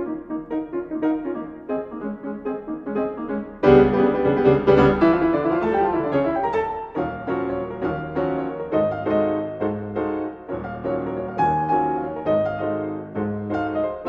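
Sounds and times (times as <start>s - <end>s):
jazz piano duet: 0.0s - 14.0s.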